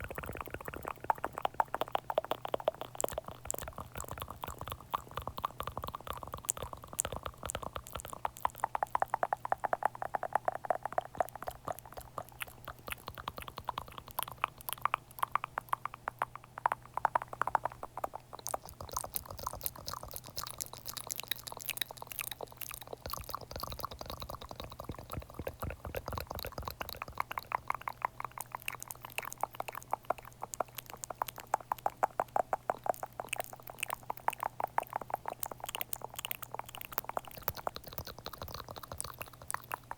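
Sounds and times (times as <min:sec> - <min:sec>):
faint steady hum: 0:00.0 - 0:39.9
wet mouth clicks and smacks: 0:00.0 - 0:39.9.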